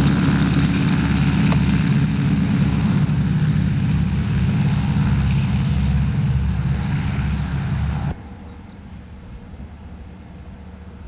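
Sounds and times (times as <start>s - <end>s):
plane engine drone: 0.0s - 11.0s.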